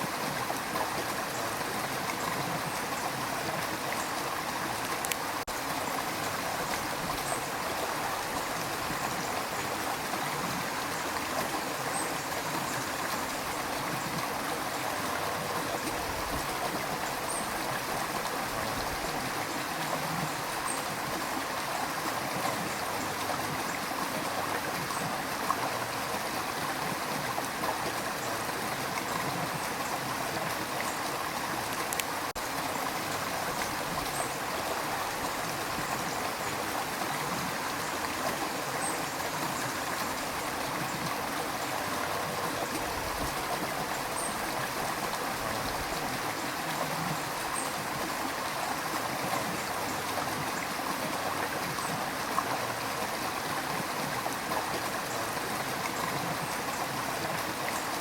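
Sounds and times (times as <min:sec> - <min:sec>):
river running over rocks: 0:00.0 - 0:58.0.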